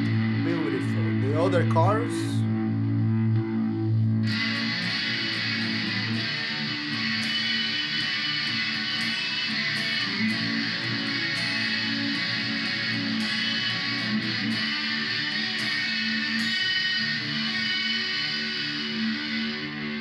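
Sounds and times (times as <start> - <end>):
electric guitar with chorus effect: 0.0 - 20.0.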